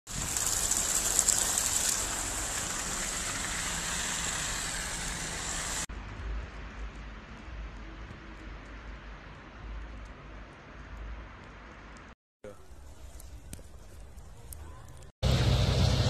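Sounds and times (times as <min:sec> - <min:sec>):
traffic hiss on snowy street: 0:00.1 - 0:16.0.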